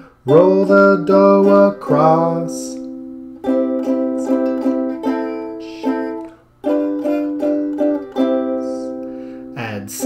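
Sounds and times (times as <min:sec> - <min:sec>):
strummed string instrument chords: 0:00.0 - 0:10.0.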